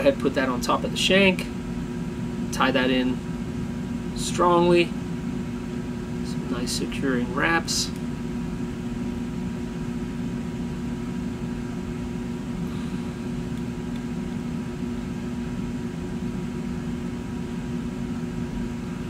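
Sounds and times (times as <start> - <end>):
mechanical room hum: 0.0 - 19.0.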